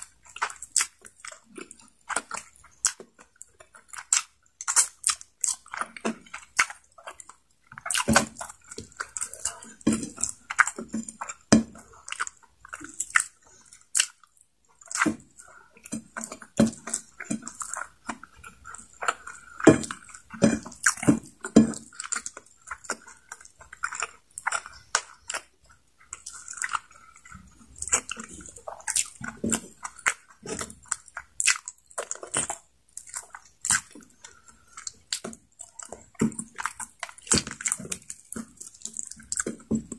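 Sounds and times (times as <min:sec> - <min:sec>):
chewing and lip smacking: 0:00.0 - 0:39.9.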